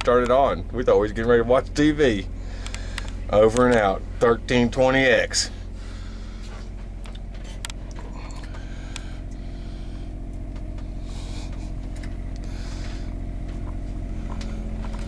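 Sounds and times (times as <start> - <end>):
throbbing motor hum: 0.0 - 15.0.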